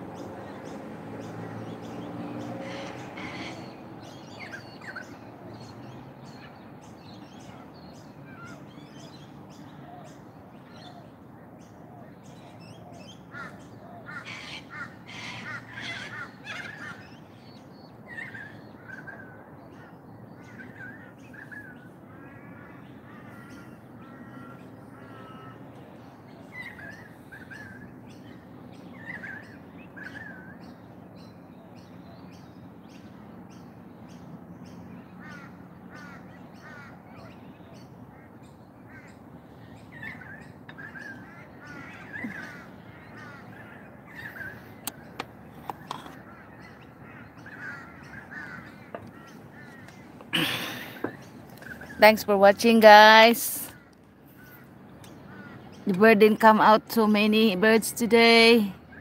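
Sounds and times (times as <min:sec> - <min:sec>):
harsh bird calls: 0:00.0 - 0:59.0.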